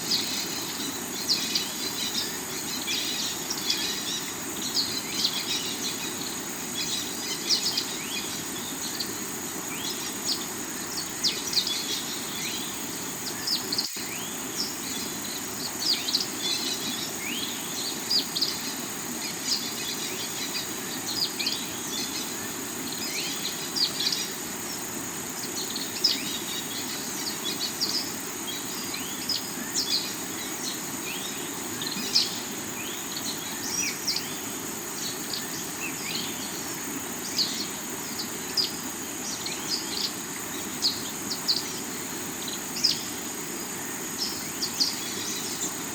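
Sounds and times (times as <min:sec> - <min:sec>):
high insect buzz: 0:00.0 - 0:45.9.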